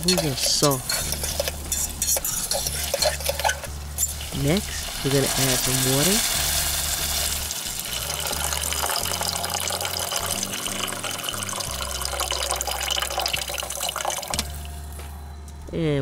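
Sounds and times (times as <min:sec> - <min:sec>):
vegetables cooking in butter: 0:00.0 - 0:14.6
water pouring into a pot: 0:00.0 - 0:14.6.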